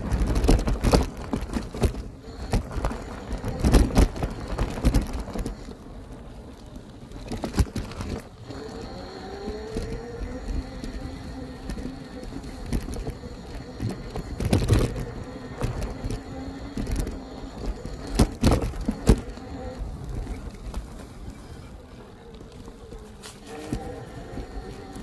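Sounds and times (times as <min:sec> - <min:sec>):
electric bike motor whining: 0:00.0 - 0:25.0.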